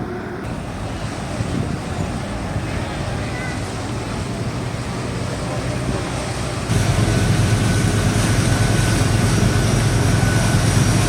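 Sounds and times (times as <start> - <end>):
boat engine droning: 0.0 - 11.0
wind and water rushing: 0.0 - 11.0.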